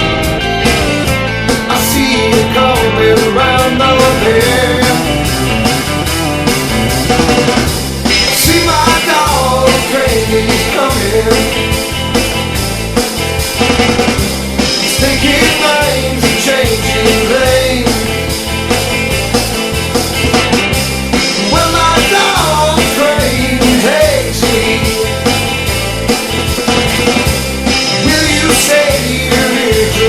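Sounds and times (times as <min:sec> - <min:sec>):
driving bass: 0:00.0 - 0:30.0
lead melody with bending notes: 0:00.0 - 0:30.0
rock band playing: 0:00.0 - 0:30.0
steady drum beat: 0:00.0 - 0:30.0.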